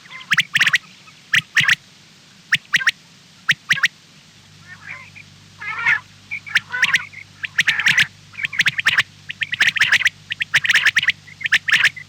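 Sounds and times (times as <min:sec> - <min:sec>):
birds squawking: 0:00.0 - 0:01.8, 0:02.5 - 0:02.9, 0:03.5 - 0:03.9, 0:04.6 - 0:12.0.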